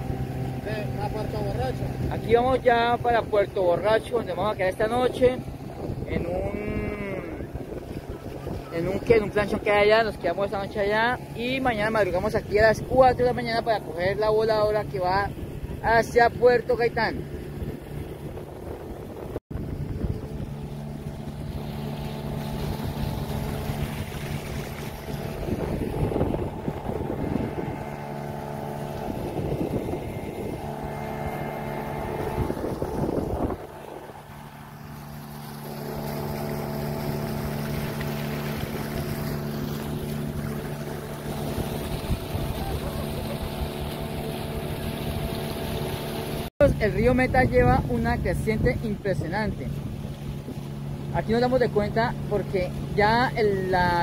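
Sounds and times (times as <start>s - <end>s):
motorboat engine running: 0.0s - 54.0s
wind buffeting microphone: 0.0s - 54.0s.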